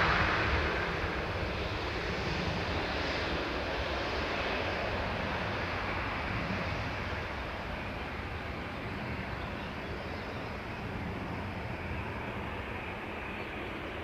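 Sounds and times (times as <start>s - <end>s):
aircraft engines rumbling: 0.0s - 14.0s.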